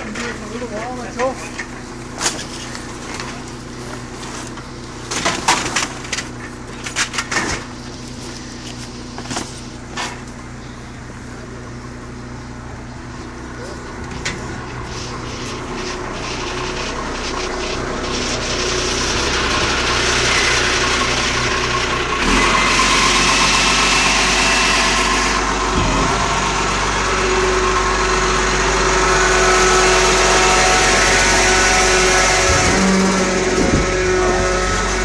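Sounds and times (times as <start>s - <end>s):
garbage truck engine and hydraulics: 0.0s - 35.0s.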